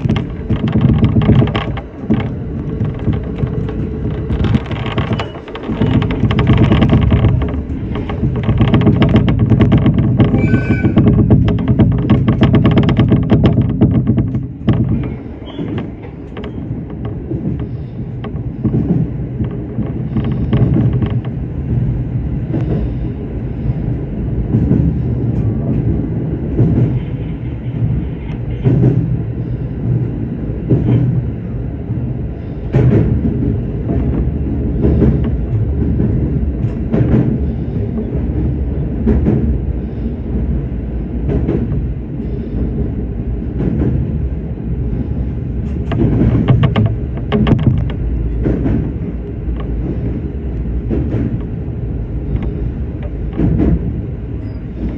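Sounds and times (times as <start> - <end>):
clack of rail joints: 0.0 - 54.9
train wheels rumbling on rail: 0.0 - 54.9.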